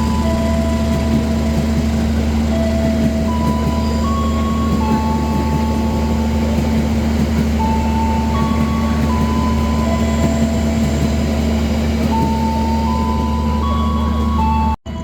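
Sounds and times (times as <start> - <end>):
train carriage rumble and hum: 0.0 - 15.0.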